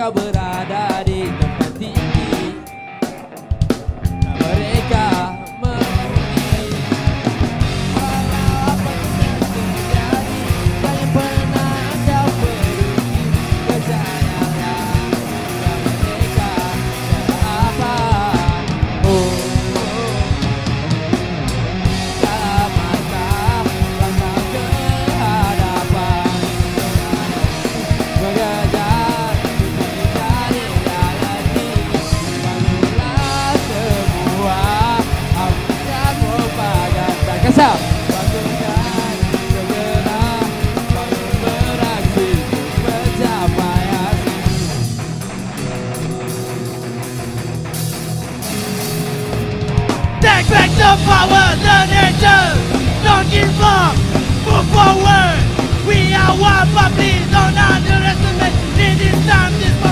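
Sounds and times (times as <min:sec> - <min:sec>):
bass guitar: 0:00.0 - 0:59.9
bending lead guitar melody: 0:00.0 - 0:59.9
drum kit: 0:00.0 - 0:59.9
electric guitars: 0:00.0 - 0:59.9.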